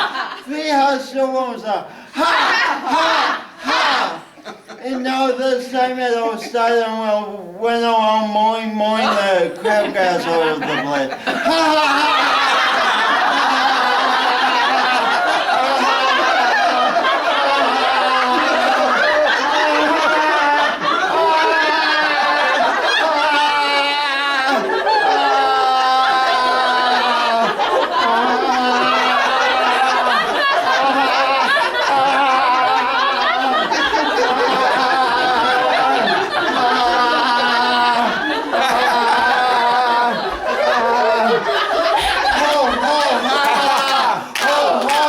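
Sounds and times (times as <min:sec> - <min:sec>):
group of people laughing: 0:00.0 - 0:00.8, 0:02.0 - 0:05.2, 0:08.8 - 0:45.0.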